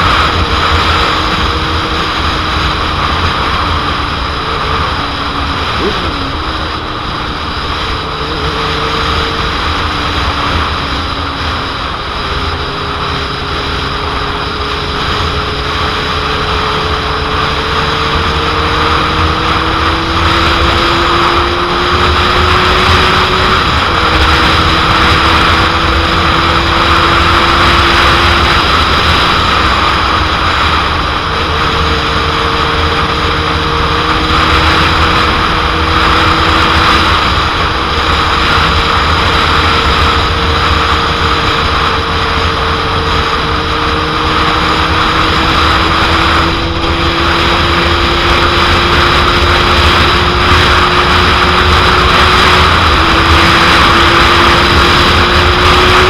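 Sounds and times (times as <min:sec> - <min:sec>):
motorcycle engine at speed: 0:00.0 - 0:56.0.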